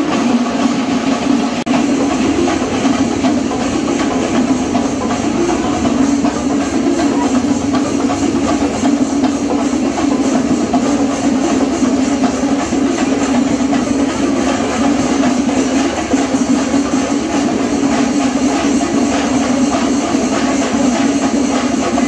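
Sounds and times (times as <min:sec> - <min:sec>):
festival drumming and music: 0:00.0 - 0:22.0.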